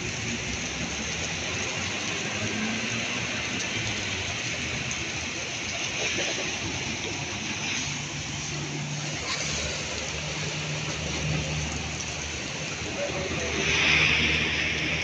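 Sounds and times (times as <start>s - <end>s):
heavy rain on wet street: 0.0s - 15.0s
low engine hum: 0.0s - 15.0s.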